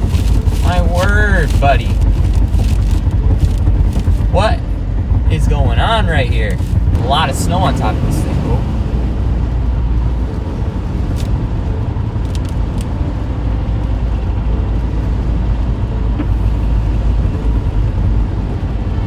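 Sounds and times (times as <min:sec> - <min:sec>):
car driving heard from cabin: 0:00.0 - 0:19.0.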